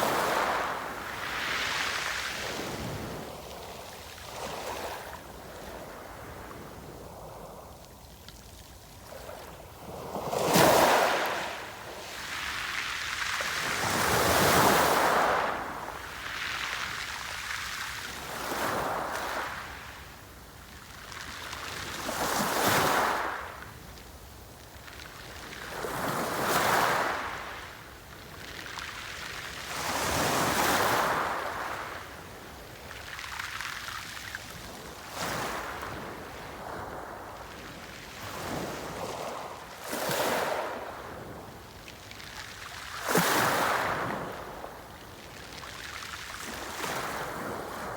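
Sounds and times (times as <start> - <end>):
sea waves breaking on shore: 0.0 - 6.5, 9.1 - 19.9, 25.2 - 47.9.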